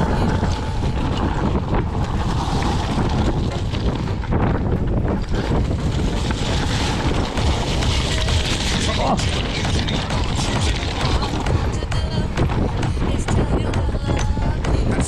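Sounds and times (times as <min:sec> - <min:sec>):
bike tyres rumbling on rough ground: 0:00.0 - 0:15.0
wind buffeting microphone: 0:00.0 - 0:15.0.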